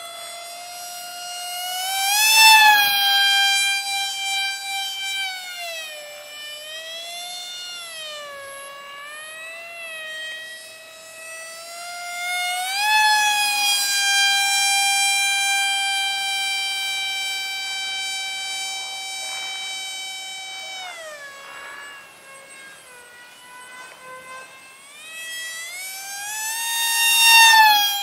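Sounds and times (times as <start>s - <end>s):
model airplane motor whining: 0.0s - 28.0s.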